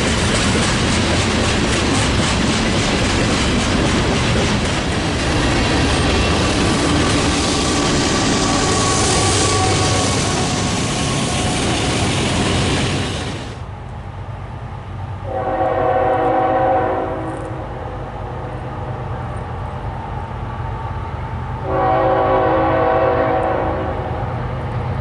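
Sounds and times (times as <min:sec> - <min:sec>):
railroad cars rumbling past: 0:00.0 - 0:25.0.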